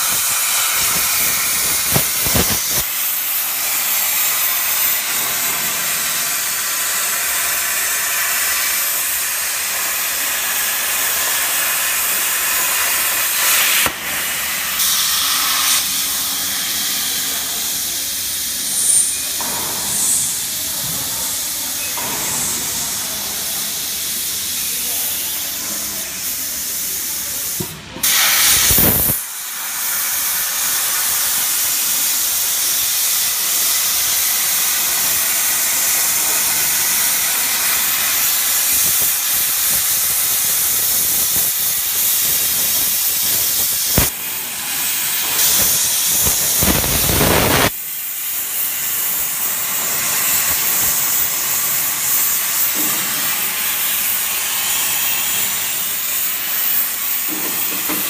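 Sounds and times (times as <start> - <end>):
cutting torch hissing: 0.0 - 58.0.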